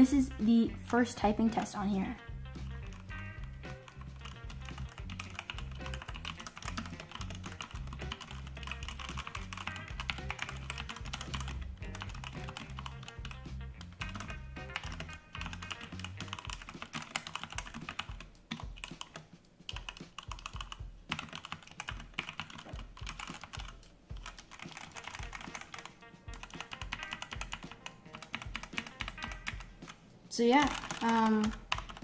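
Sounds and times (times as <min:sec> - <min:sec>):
mechanical keyboard typing: 0:03.8 - 0:30.0, 0:30.6 - 0:32.0.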